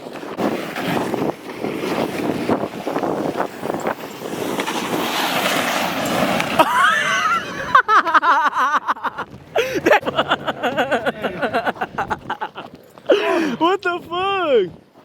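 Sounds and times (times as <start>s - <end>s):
wind on microphone: 0.0s - 8.0s, 8.9s - 13.6s.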